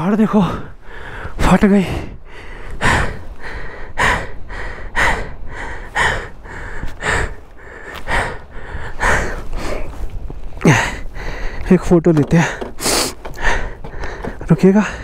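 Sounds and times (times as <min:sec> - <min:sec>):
man panting heavily: 0:00.3 - 0:15.0.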